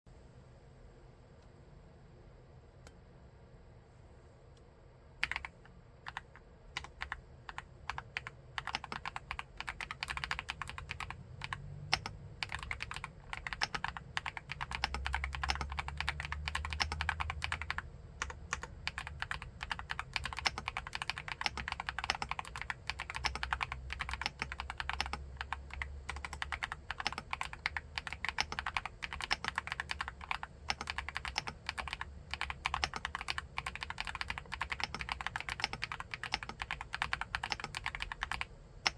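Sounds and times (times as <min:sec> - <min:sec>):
mechanical keyboard typing: 0:05.2 - 0:38.9.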